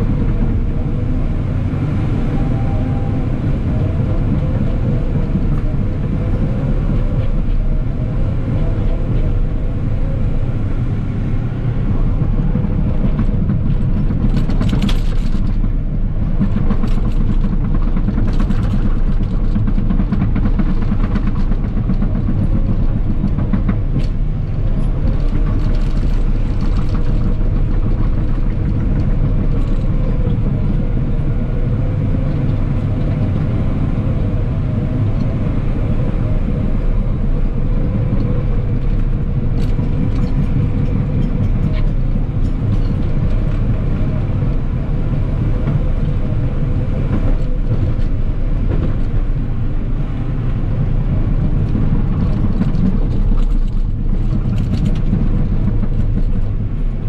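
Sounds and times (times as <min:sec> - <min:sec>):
loader diesel engine running: 0:00.0 - 0:57.0.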